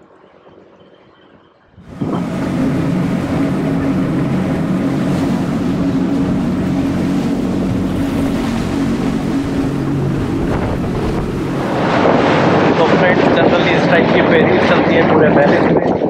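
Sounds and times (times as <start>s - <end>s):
boat engine humming: 0.0s - 16.0s
rushing water: 1.8s - 15.8s
wind noise: 1.8s - 16.0s.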